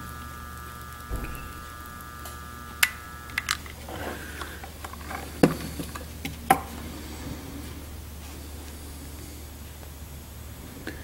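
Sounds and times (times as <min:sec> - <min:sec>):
soldering gun buzzing: 0:00.0 - 0:10.4.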